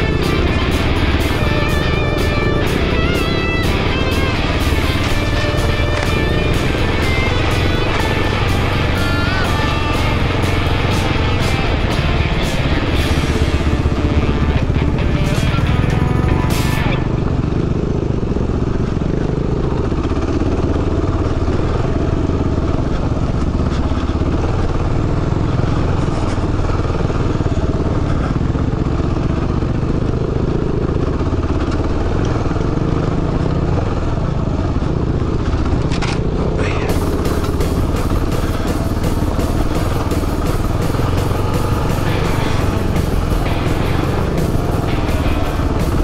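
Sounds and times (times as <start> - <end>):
motorcycle engine running steadily: 0.0 - 46.0.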